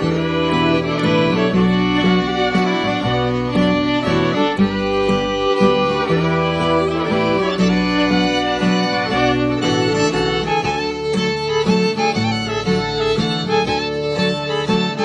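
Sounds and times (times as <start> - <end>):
fiddle tune: 0.0 - 15.0
guitar: 0.0 - 15.0
string bass: 0.0 - 15.0.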